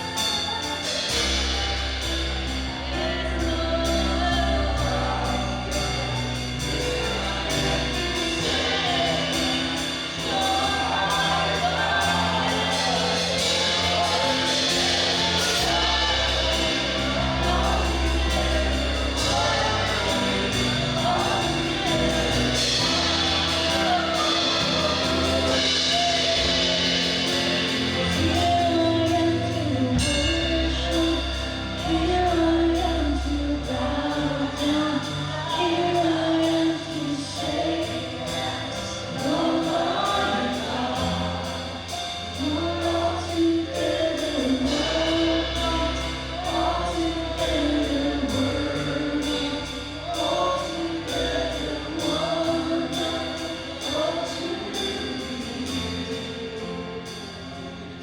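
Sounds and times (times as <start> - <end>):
person singing: 0.0 - 57.3
drums: 0.0 - 58.0
live worship band music: 0.0 - 58.0.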